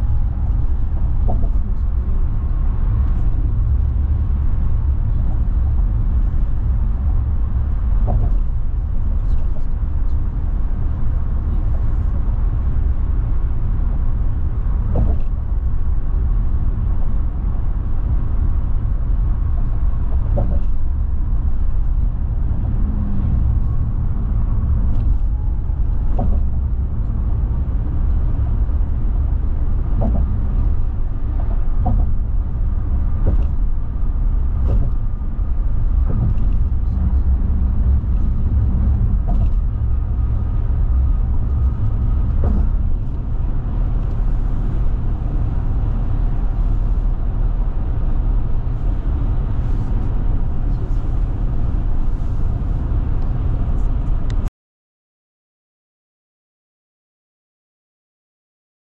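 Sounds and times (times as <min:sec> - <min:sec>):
car road and engine rumble: 0:00.0 - 0:54.5.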